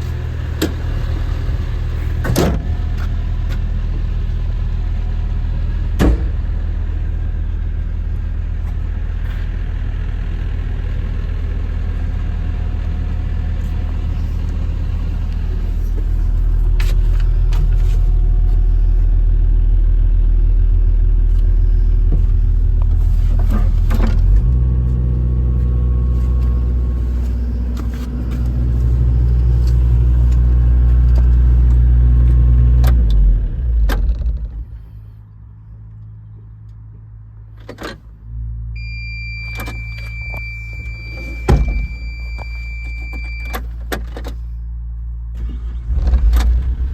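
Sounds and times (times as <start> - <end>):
diesel excavator engine running: 0.0 - 46.9.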